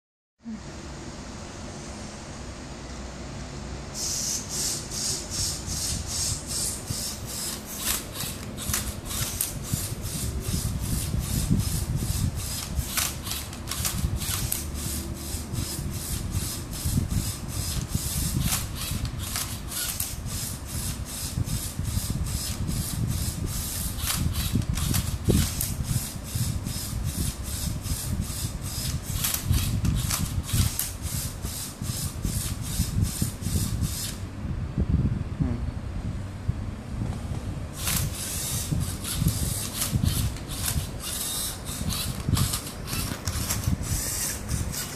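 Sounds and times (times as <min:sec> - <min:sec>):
rhythmic plastic rasping: 0:04.7 - 0:34.2, 0:37.8 - 0:44.9.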